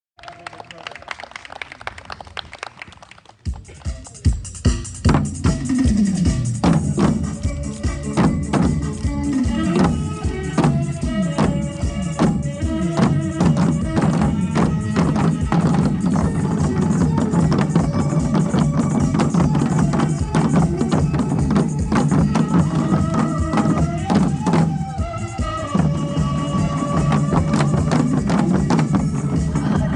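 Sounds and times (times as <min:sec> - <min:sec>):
music with drum beat and melody: 0:03.5 - 0:29.9.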